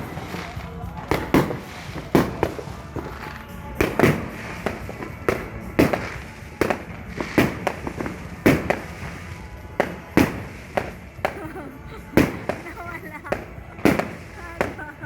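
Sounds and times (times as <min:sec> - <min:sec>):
distant fireworks popping: 0:00.0 - 0:15.0
firecracker bangs: 0:00.0 - 0:15.0.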